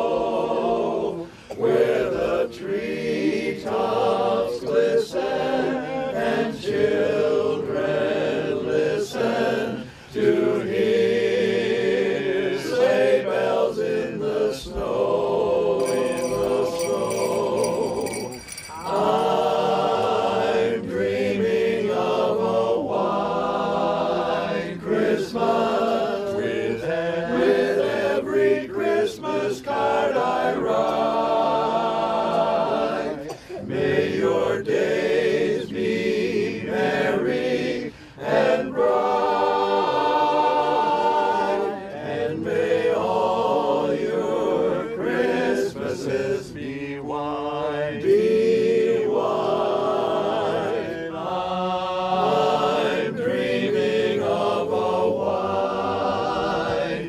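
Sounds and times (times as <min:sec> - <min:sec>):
men's chorus singing a cappella: 0:00.0 - 0:57.0.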